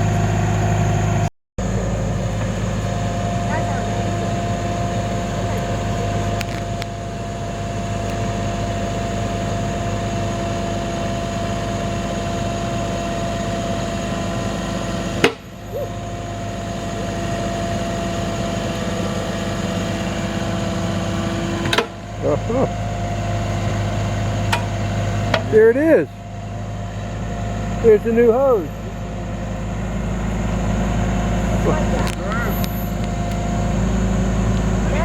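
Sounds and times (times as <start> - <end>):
engine humming steadily: 0.0 - 35.0.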